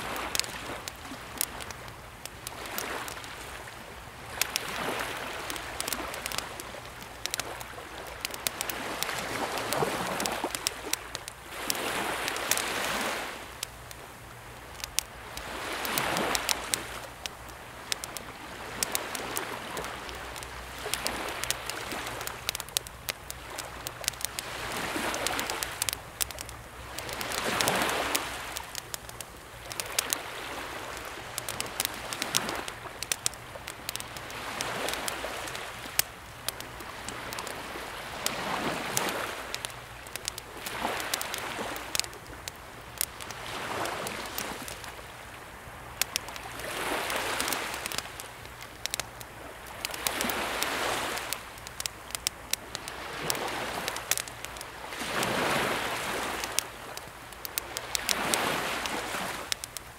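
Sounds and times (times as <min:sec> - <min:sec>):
campfire crackling and popping: 0:00.0 - 0:59.9
sea waves washing: 0:00.0 - 0:59.9.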